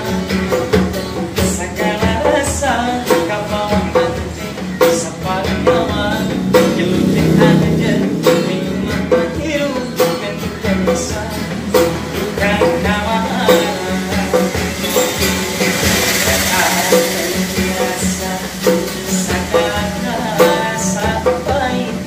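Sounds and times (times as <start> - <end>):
hand drum beating: 0.0 - 22.0
man singing: 0.0 - 22.0
strummed acoustic guitar: 0.0 - 22.0.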